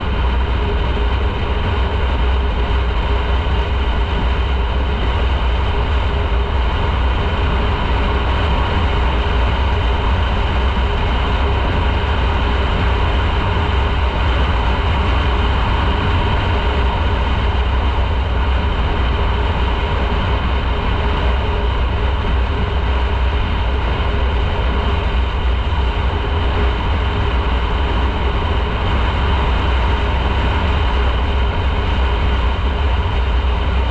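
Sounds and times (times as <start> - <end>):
motorcycle engine drone: 0.0 - 33.9
wind rumble on microphone: 0.0 - 33.9.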